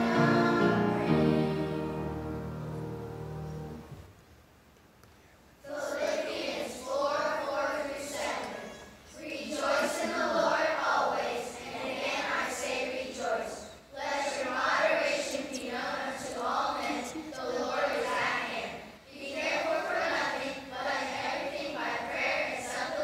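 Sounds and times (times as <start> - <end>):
children's choir singing: 0.0 - 4.0, 5.6 - 23.0.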